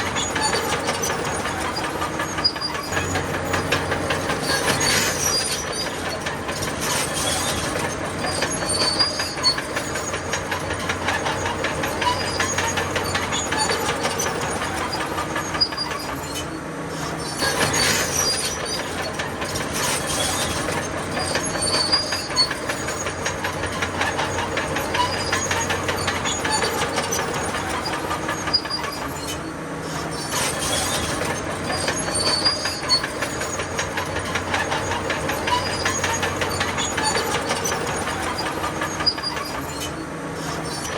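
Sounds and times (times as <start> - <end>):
bulldozer diesel engine under load: 0.0 - 40.9
steel tracks clanking and squealing: 0.0 - 40.9.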